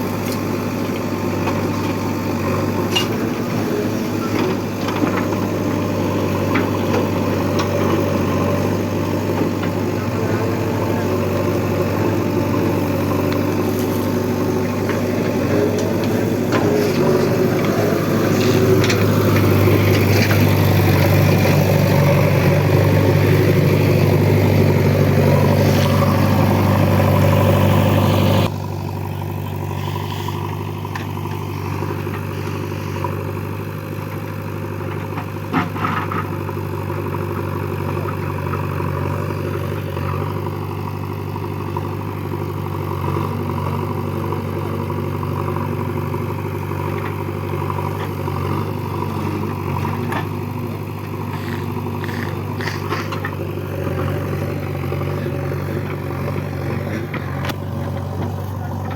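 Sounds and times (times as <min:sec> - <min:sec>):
heavy diesel engine running: 0:00.0 - 0:58.9.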